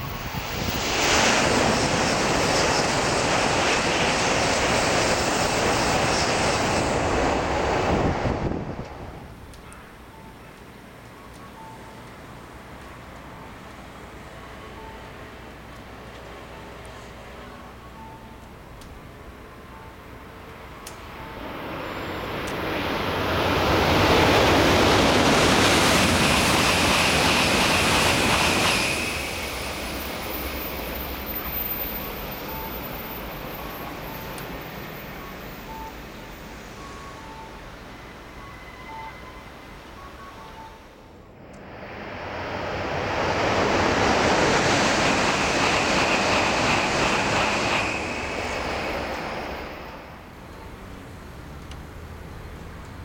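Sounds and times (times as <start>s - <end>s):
faint high whine: 0.0s - 51.6s
high-speed train rushing past: 0.0s - 53.0s.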